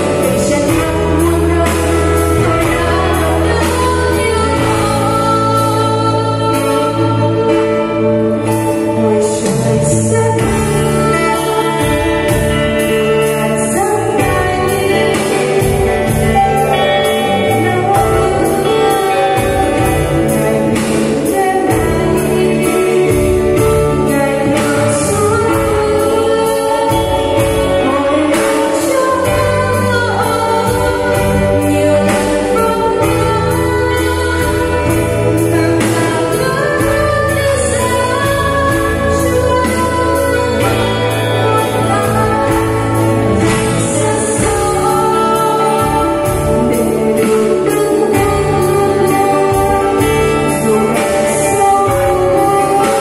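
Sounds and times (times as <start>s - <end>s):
electric bass: 0.0s - 53.0s
keyboard: 0.0s - 53.0s
person singing: 0.0s - 53.0s.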